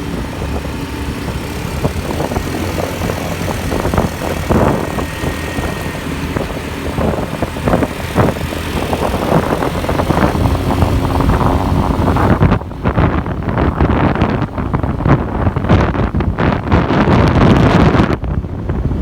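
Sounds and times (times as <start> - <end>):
motorbike engine running: 0.0 - 19.0
road traffic: 0.0 - 19.0
wind rumbling on microphone: 0.0 - 19.0.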